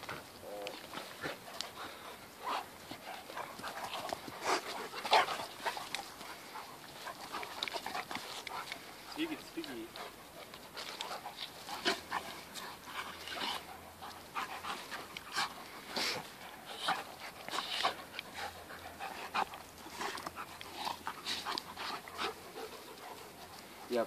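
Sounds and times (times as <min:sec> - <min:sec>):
dogs breathy sounds: 0:00.0 - 0:24.0.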